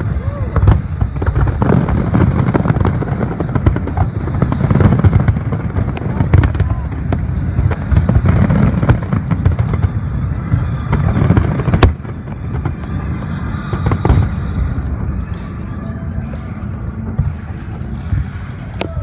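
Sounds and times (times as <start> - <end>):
fireworks exploding: 0.0 - 19.0.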